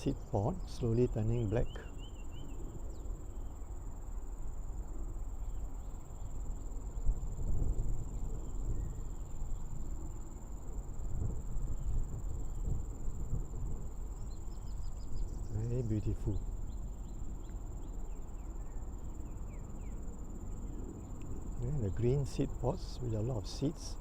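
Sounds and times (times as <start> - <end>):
insects trilling: 0.0 - 24.0
low uneven rumble: 4.4 - 24.0.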